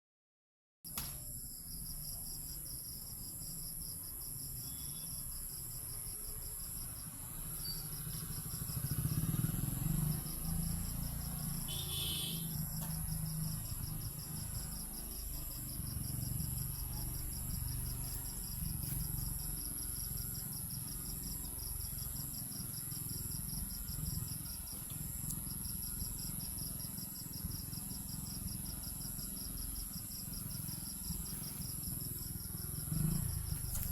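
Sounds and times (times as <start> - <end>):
crickets and insects chirping: 0.9 - 33.9.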